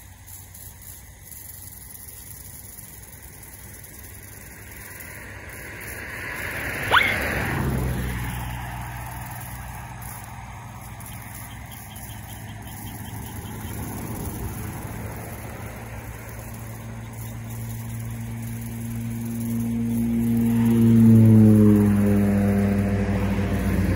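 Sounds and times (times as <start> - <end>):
road noise: 0.0 - 23.9
vehicle engine hum: 0.0 - 23.9.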